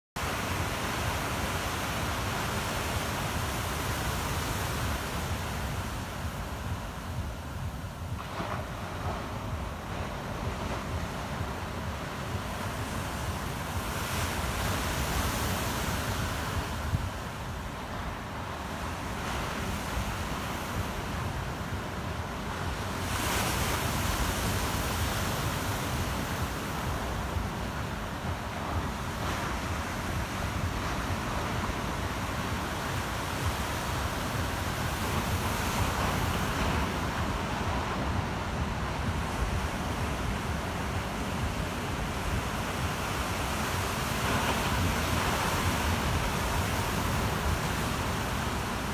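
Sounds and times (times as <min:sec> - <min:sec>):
waves breaking: 0:00.2 - 0:48.9
wind rumble on microphone: 0:00.2 - 0:48.9.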